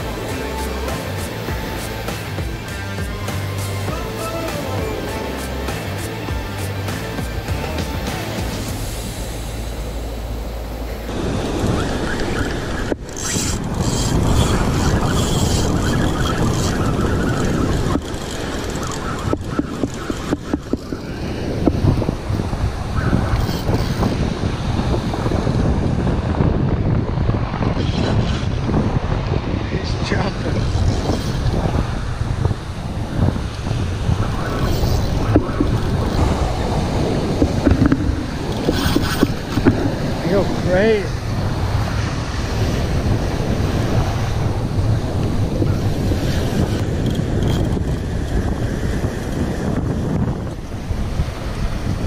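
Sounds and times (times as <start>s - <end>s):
beach surf: 0.0s - 52.0s
wind rumbling on microphone: 0.0s - 52.0s.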